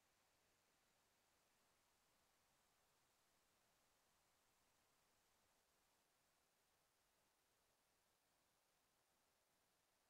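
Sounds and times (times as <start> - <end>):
faint digital hiss: 0.0 - 10.0.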